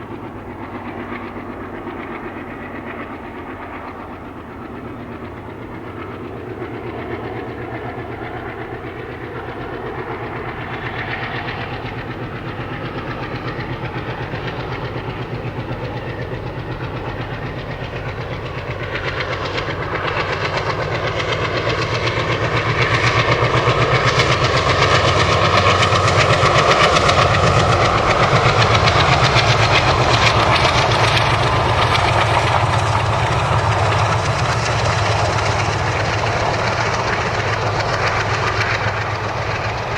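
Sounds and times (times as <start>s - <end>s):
diesel locomotive engine under load: 0.0s - 39.9s
train wheels clicking over rail joints: 5.2s - 39.9s.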